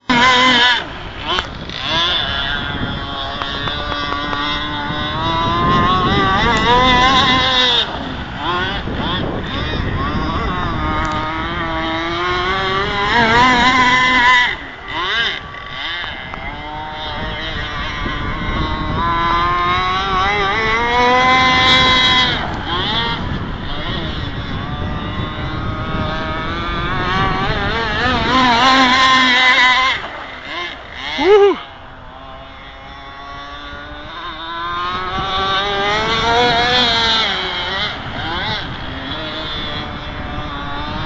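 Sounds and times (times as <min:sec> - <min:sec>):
boat engine at high revs: 0:00.0 - 0:41.0.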